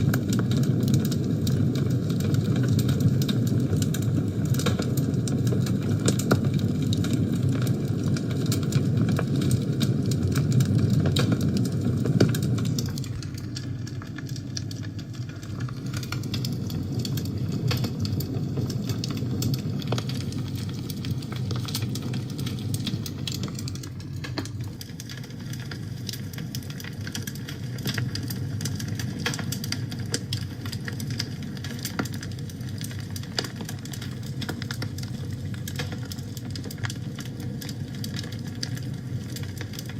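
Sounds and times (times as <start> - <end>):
fire crackling and popping: 0.0 - 39.9
rumble of fire flames: 0.0 - 39.9.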